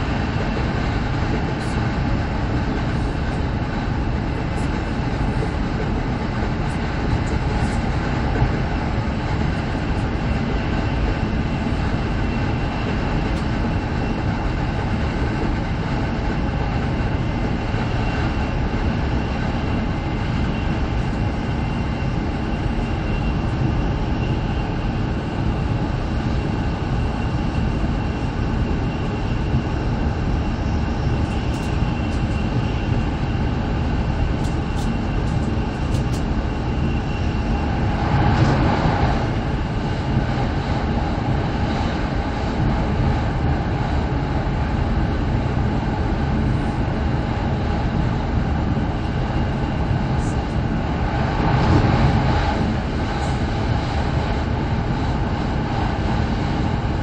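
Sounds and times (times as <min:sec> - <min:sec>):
high-speed train cabin rumble: 0:00.0 - 0:57.0.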